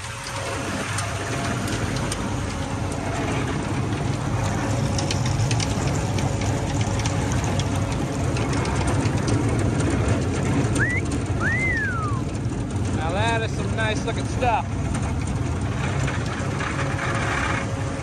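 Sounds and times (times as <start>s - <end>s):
forage harvester engine rumbling: 0.0s - 18.0s.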